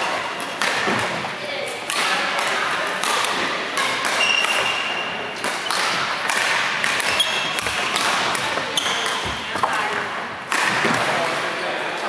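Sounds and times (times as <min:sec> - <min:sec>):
rackets striking shuttlecocks: 0:00.0 - 0:11.5.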